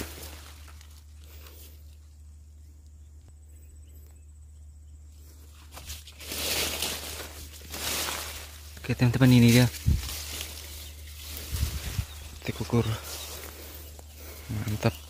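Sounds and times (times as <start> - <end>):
footsteps in undergrowth: 0.0 - 3.0, 5.1 - 15.0
leaves and grass rustling: 0.0 - 3.2, 5.1 - 15.0.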